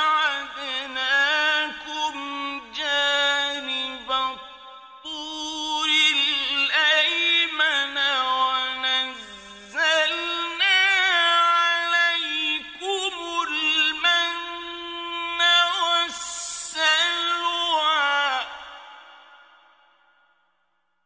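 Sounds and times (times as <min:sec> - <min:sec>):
man chanting melodically: 0:00.0 - 0:19.3.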